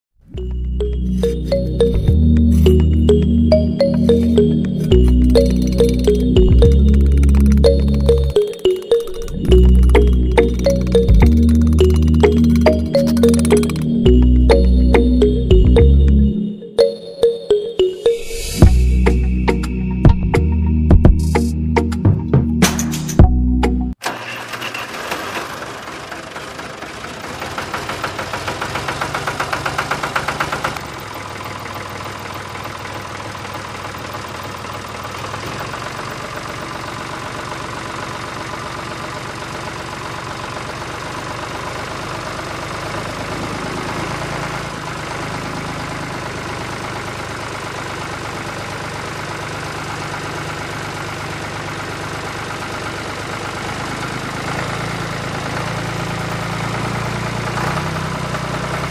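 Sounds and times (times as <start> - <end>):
diesel tractor engine knocking: 0.9 - 16.1, 25.5 - 58.9.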